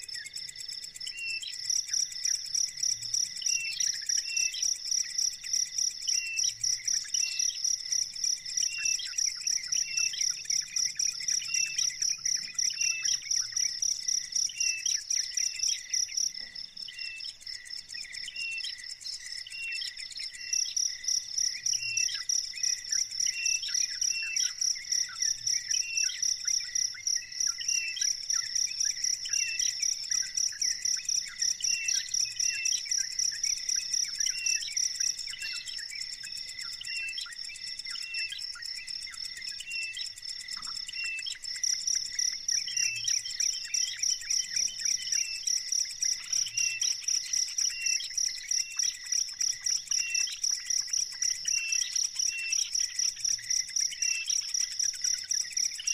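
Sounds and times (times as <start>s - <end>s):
cricket chirping: 0.0s - 55.9s.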